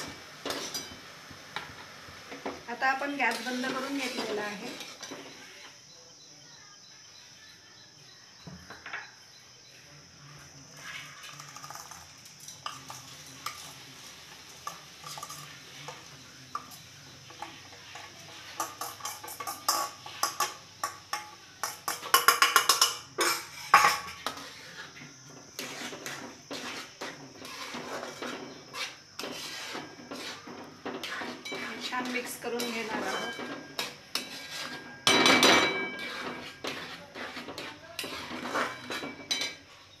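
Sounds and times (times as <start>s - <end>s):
clinks and scrapes on metal: 0.0s - 1.0s, 3.2s - 5.8s, 10.7s - 39.9s
ladle scraping while stirring: 0.0s - 1.0s, 3.2s - 5.7s, 10.7s - 39.6s.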